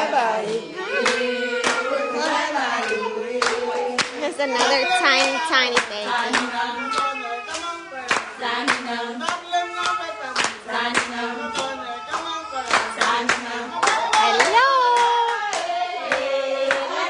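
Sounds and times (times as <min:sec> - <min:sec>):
group of voices singing: 0:00.0 - 0:17.0
rhythmic hand clapping: 0:00.0 - 0:17.0.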